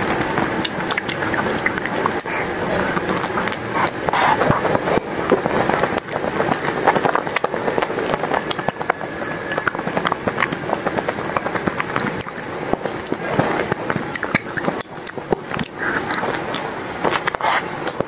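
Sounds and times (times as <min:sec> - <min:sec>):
chewing ice cream bar: 0:00.0 - 0:18.0
wet mouth clicks: 0:00.6 - 0:18.0.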